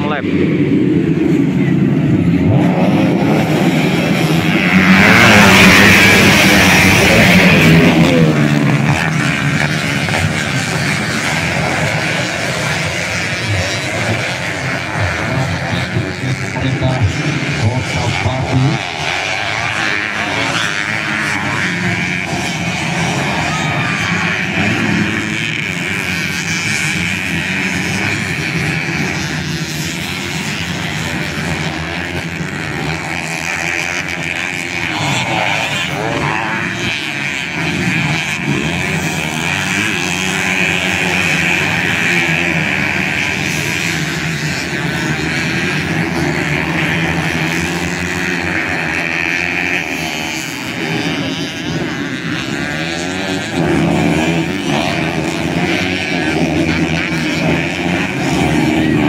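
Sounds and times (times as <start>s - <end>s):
motorcycles racing: 0.0s - 59.0s.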